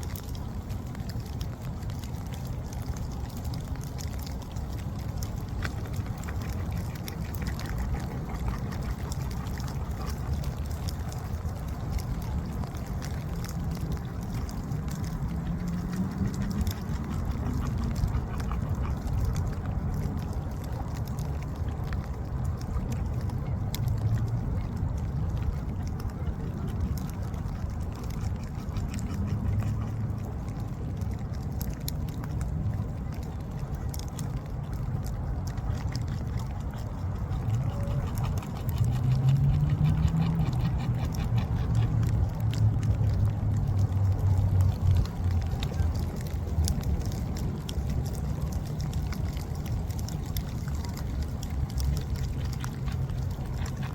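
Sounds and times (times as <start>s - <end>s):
low steady rumble: 0.0s - 53.9s.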